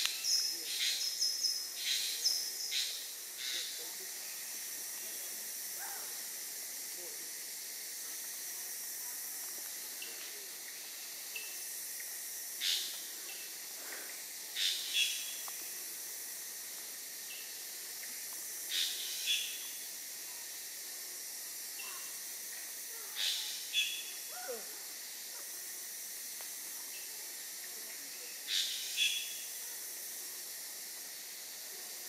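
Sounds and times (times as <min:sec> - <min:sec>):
high-pitched insect hiss: 0:00.0 - 0:32.0.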